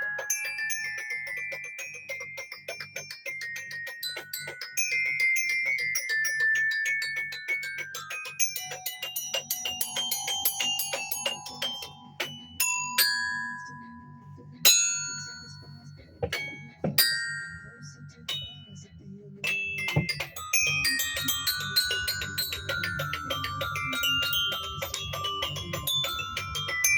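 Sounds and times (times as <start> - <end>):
tuned mallet percussion: 0.0 - 26.9.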